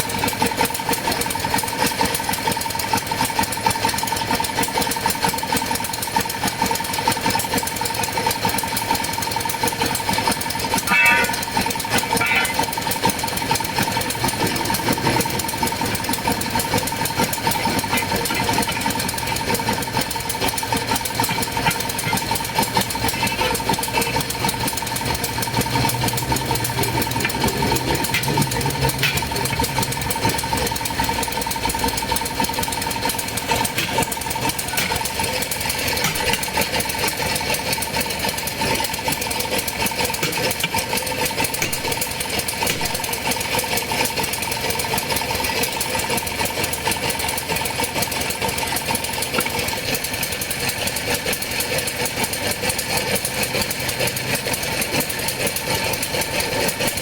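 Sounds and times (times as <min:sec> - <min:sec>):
machine rattling: 0:00.0 - 0:57.0.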